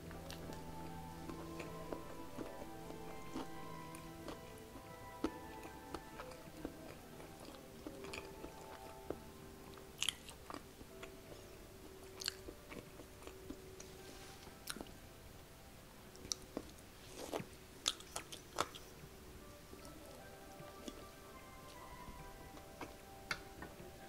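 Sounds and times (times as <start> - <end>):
close-miked chewing: 0.0 - 15.0, 16.1 - 24.0
quiet background music: 0.0 - 24.0.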